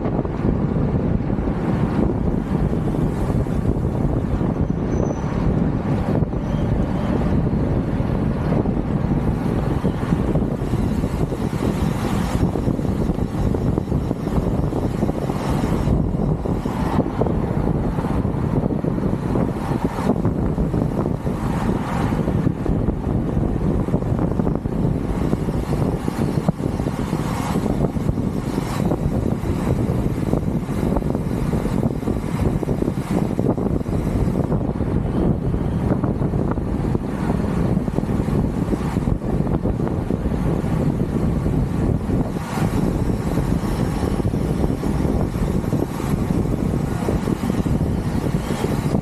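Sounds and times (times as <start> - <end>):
bicycle road noise: 0.0 - 49.0
wind rumble on microphone: 0.0 - 49.0.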